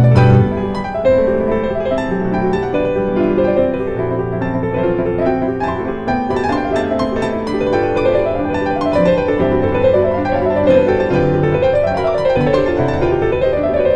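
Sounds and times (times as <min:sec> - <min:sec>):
gentle piano music: 0:00.0 - 0:13.9.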